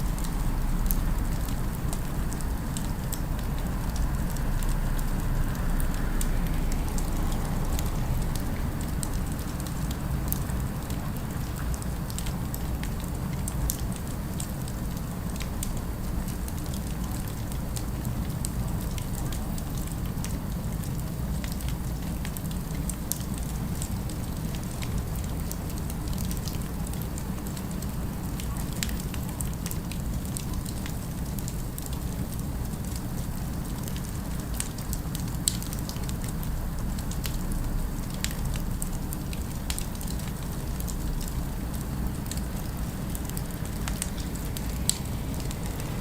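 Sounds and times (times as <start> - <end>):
fireplace fire crackling: 0.0 - 46.0.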